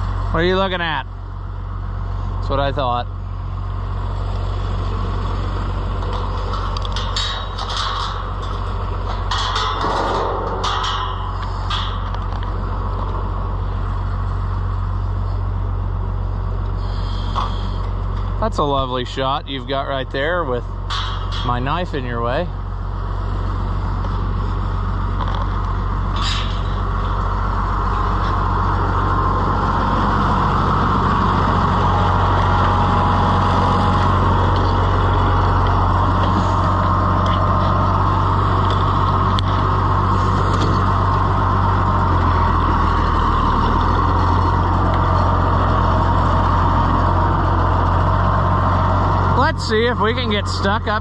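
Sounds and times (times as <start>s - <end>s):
tractor engine idling: 0.0s - 51.0s.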